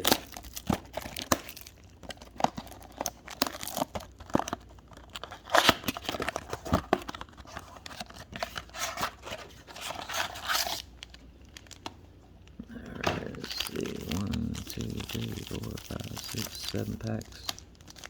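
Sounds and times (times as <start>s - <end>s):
packaging tearing and crinkling: 0.0s - 11.9s, 12.9s - 18.0s.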